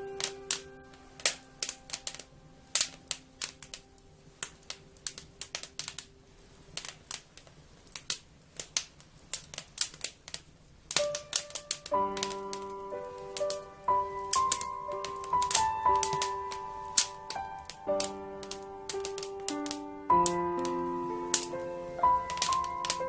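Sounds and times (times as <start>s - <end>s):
soft background music: 0.0s - 7.2s, 11.0s - 23.0s
wood fire crackling: 0.0s - 23.0s.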